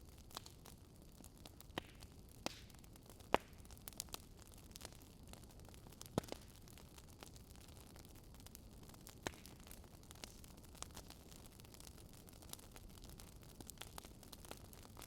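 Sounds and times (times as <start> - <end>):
campfire crackling and popping: 0.0 - 15.0
campfire hiss: 0.0 - 15.0.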